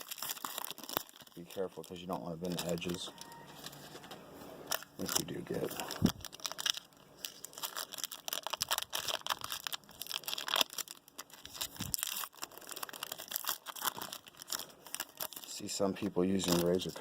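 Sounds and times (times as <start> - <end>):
card pack wrappers tearing: 0.0 - 17.0.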